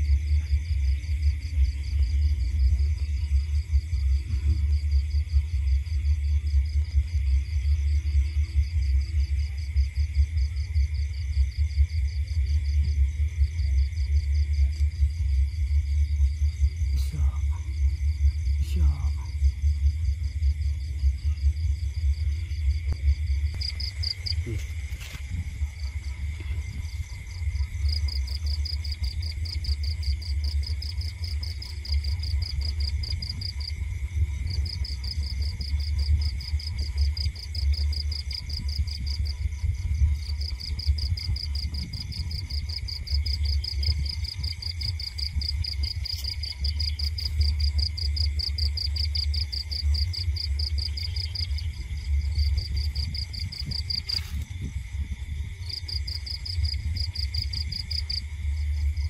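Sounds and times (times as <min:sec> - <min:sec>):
constant low rumble: 0:00.0 - 0:59.0
crickets trilling: 0:00.0 - 0:59.0
steady low insect note: 0:00.0 - 0:59.0.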